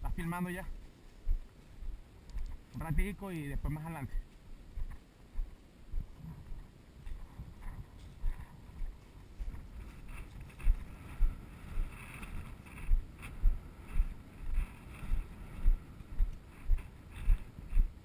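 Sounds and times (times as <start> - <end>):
footsteps on grassy trail: 0.0 - 18.0.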